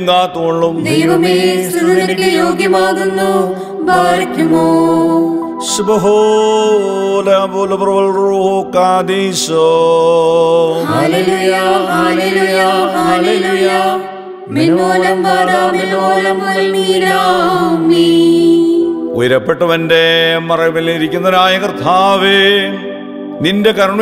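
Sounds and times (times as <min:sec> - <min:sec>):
liturgical chant singing: 0:00.0 - 0:24.0.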